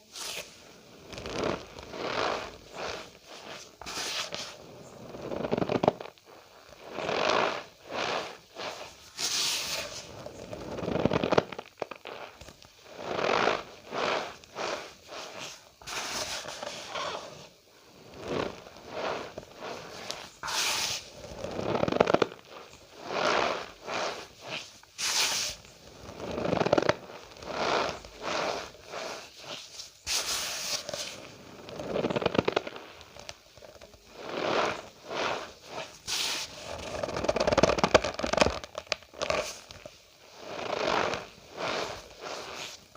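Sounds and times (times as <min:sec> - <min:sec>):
cornstarch squeaky crunches: 0:01.1 - 0:42.9.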